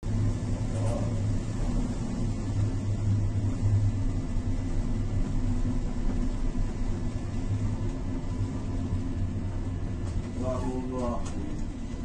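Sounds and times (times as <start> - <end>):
ship engine drone: 0.0 - 12.0
wind and sea rushing: 0.0 - 12.0.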